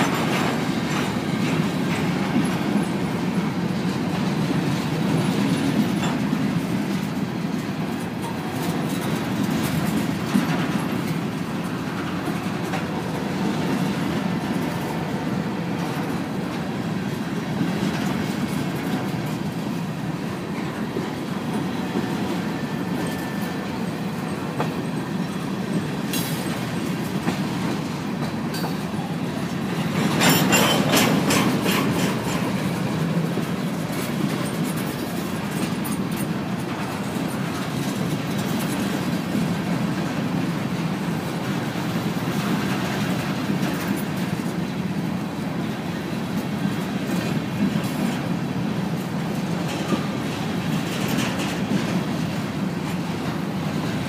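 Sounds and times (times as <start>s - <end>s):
freight train wheels clacking on rail: 0.0s - 54.0s.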